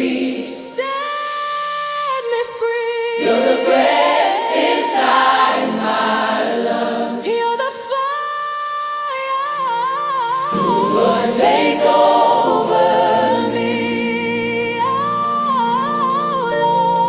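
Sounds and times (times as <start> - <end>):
choir singing wordless harmonies: 0.0 - 17.0.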